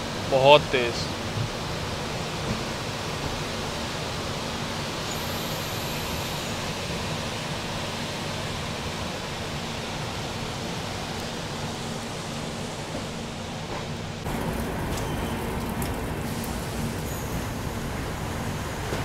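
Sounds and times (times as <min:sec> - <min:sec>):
train rushing with low rumble: 0:00.0 - 0:19.0.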